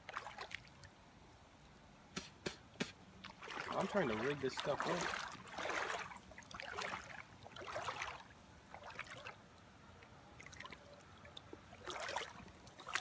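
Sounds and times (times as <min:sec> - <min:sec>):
river water trickling: 0:00.0 - 0:13.0.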